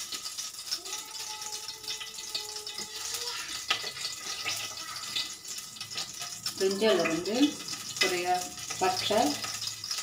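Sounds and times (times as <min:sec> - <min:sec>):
oil sizzling with crackles: 0:00.0 - 0:10.0.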